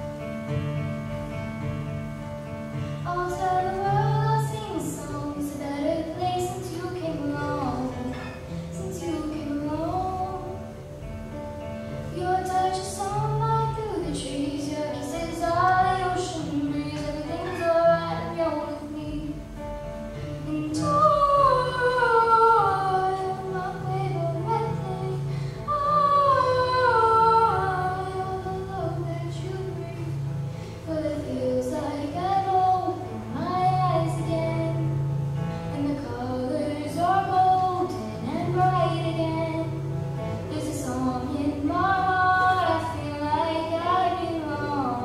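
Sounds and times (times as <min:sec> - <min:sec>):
strummed acoustic guitar: 0:00.0 - 0:45.0
girl singing: 0:03.0 - 0:10.8, 0:12.1 - 0:19.4, 0:20.4 - 0:35.0, 0:35.7 - 0:39.9, 0:40.5 - 0:45.0.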